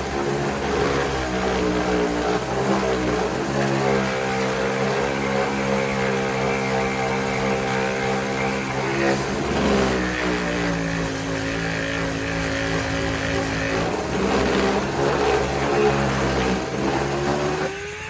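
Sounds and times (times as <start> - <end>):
power tool motor running: 0.0 - 18.0.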